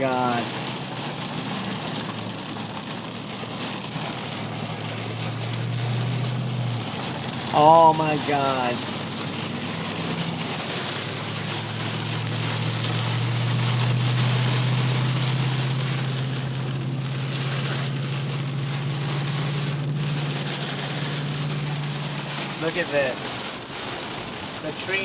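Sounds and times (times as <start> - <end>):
car engine and road hum: 0.0 - 25.0
rain falling on a car: 0.0 - 25.0.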